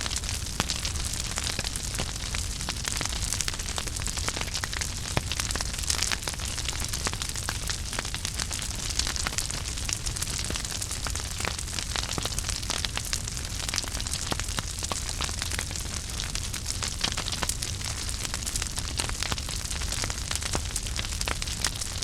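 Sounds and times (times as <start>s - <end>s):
fire popping and snapping: 0.0s - 22.0s
wood fire crackling: 0.0s - 22.0s.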